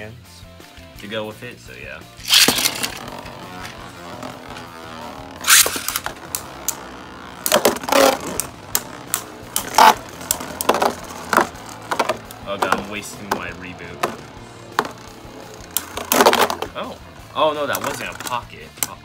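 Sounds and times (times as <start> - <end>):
spinning tops whirring: 2.0 - 19.0
spinning tops colliding clacks: 2.1 - 19.0.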